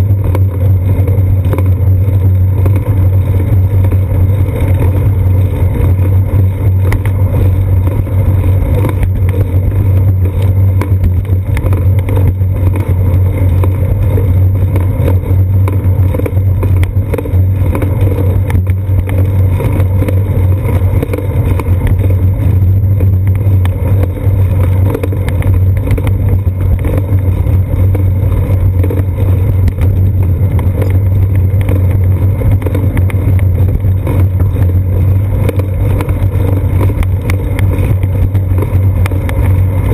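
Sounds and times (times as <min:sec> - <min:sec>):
road vibration and wind rumble: 0:00.0 - 0:39.9.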